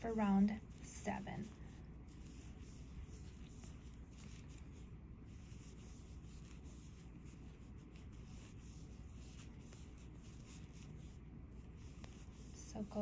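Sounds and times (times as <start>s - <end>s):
crochet hook scraping yarn: 0.0s - 13.0s
low room hum: 0.0s - 13.0s.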